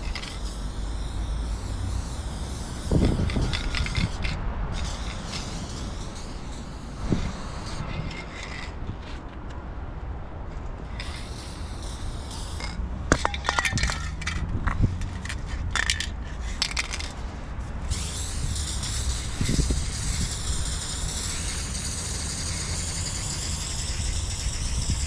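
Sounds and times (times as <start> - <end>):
spray can ball rattling: 0.0 - 8.8, 10.9 - 17.2, 17.8 - 25.0
spray paint hissing: 0.0 - 8.8, 10.8 - 25.0.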